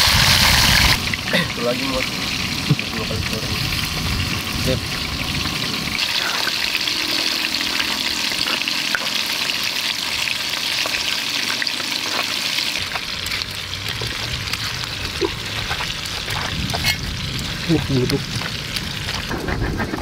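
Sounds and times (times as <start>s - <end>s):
fish sizzling in hot oil: 0.0s - 19.8s.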